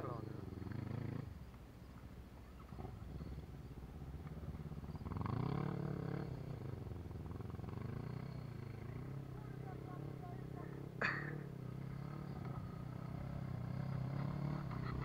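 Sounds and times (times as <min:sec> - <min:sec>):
engine revving: 0:00.0 - 0:01.3, 0:02.6 - 0:15.0
distant quad engines: 0:00.0 - 0:15.0.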